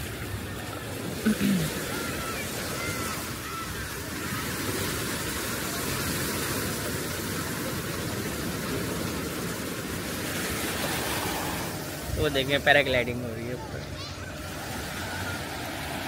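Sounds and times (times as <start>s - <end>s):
surf washing onto sandy beach: 0.0s - 16.0s.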